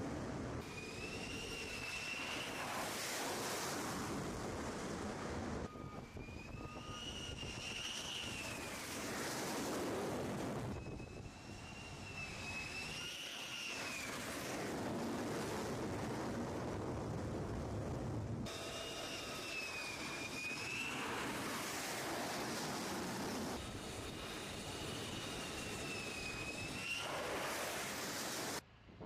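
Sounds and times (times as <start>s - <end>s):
jet engine rumble and hiss: 0.0s - 28.7s
high turbine whine: 0.0s - 29.0s.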